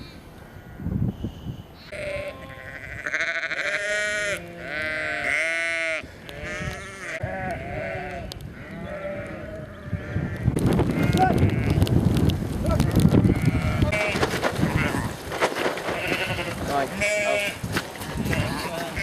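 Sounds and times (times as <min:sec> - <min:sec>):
sheep and lambs bleating: 0:01.8 - 0:11.9, 0:13.2 - 0:15.2, 0:15.8 - 0:19.0.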